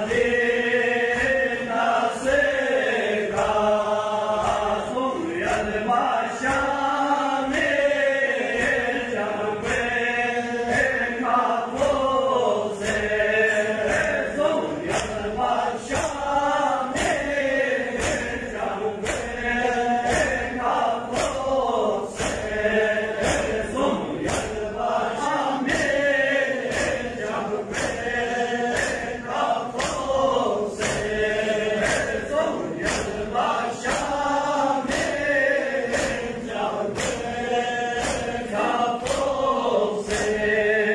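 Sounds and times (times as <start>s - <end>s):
chest-beating rhythm: 0.0s - 40.8s
crowd of men chanting: 0.0s - 40.9s
man reciting into a microphone: 0.0s - 40.9s.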